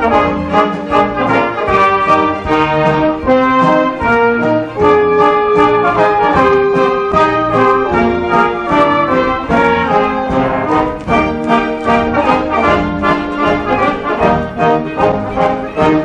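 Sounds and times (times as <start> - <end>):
orchestra playing lively dance music: 0.0 - 16.0.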